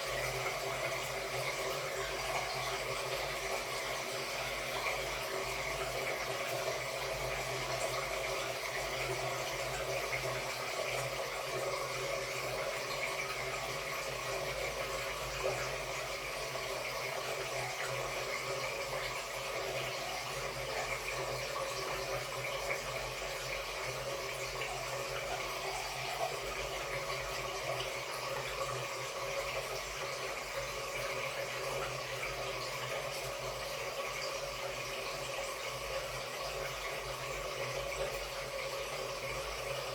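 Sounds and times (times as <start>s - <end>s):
washing machine running: 0.0s - 39.9s
water sloshing steadily: 0.0s - 39.9s.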